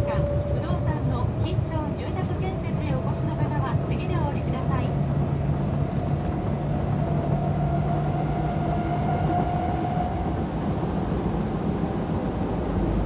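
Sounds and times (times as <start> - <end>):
held whine: 0.0 - 13.0
subway car running rumble: 0.0 - 13.0.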